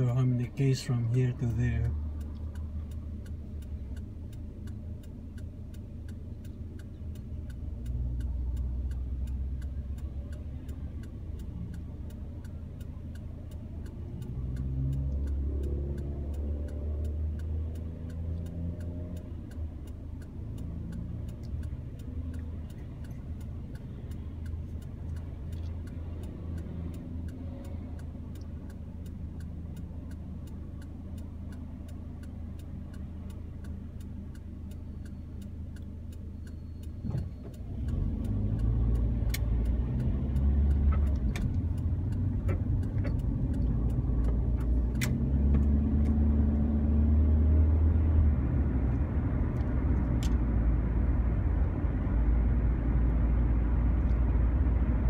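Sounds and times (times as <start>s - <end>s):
engine and traffic rumble: 0.0s - 55.0s
turn indicator clicking: 0.0s - 55.0s.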